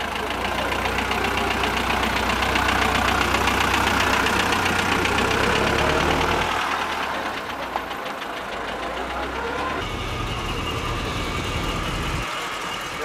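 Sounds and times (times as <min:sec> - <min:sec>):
car engine driving past: 0:00.5 - 0:13.0.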